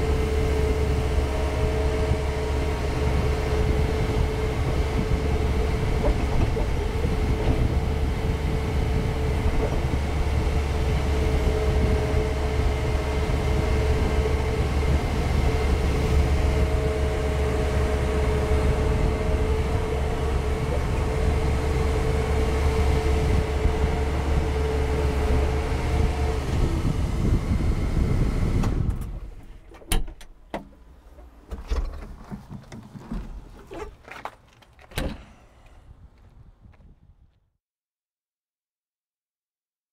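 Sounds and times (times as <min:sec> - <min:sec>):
tractor diesel engine running: 0:00.0 - 0:36.8.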